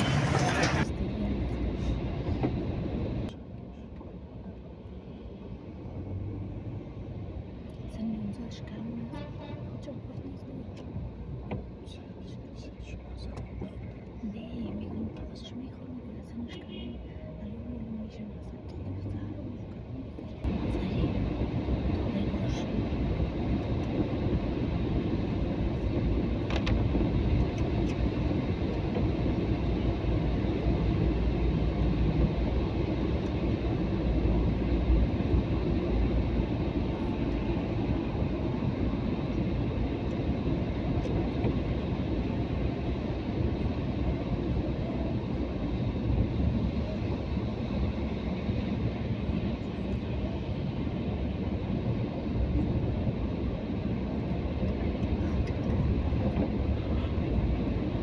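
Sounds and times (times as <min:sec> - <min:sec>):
car engine rumble: 0:00.0 - 0:58.0
tyres on wet slushy road: 0:00.0 - 0:58.0.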